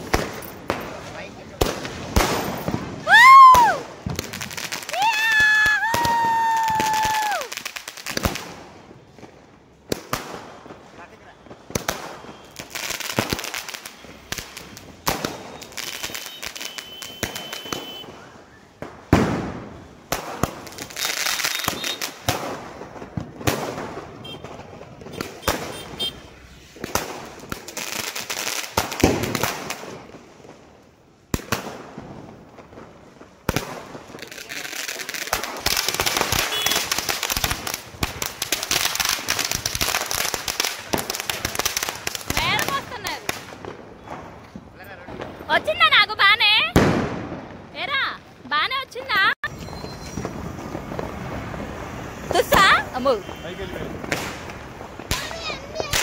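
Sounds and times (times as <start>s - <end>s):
firework fountain hissing: 0.0s - 8.9s, 10.0s - 30.1s, 33.3s - 44.5s, 49.5s - 56.0s
firecrackers banging: 0.0s - 56.0s.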